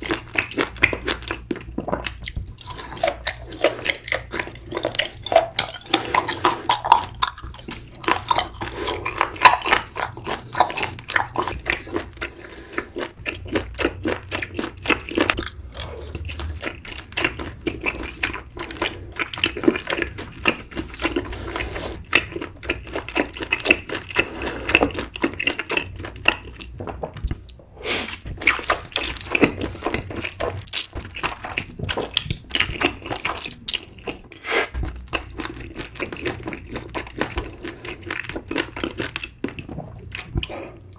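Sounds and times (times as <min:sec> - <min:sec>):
wet sticky chewing: 0:00.0 - 0:40.9.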